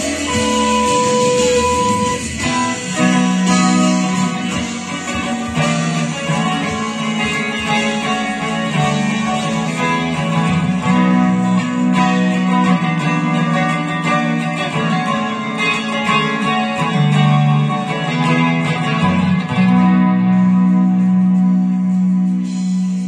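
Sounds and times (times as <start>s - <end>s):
clean electric guitar: 0.0s - 23.0s.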